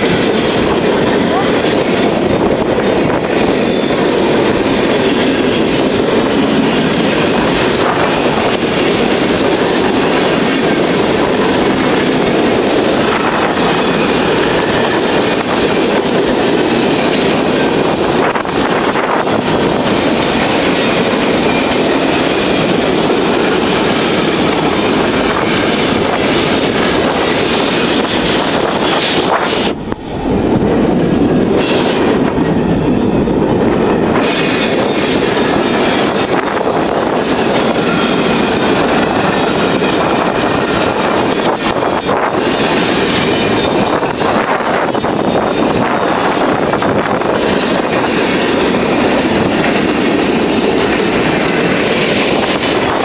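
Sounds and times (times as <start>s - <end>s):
freight train wheels on rails: 0.0s - 53.0s.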